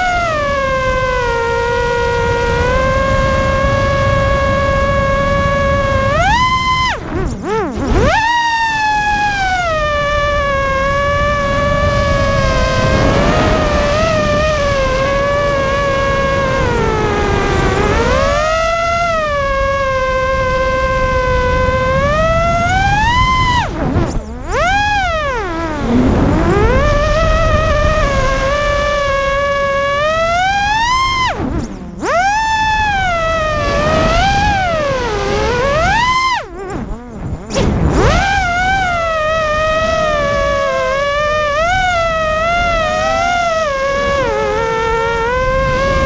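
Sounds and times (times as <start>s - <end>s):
low wind rumble: 0.0s - 46.0s
quadcopter motors whining: 0.0s - 46.0s.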